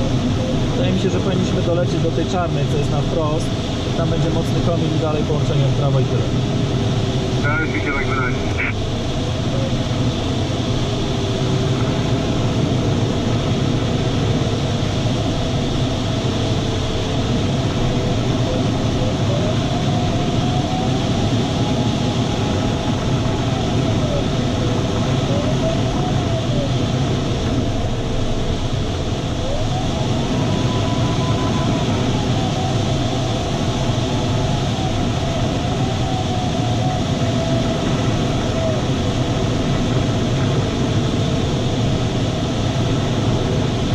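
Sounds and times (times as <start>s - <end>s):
airflow rushing around cockpit: 0.0s - 43.9s.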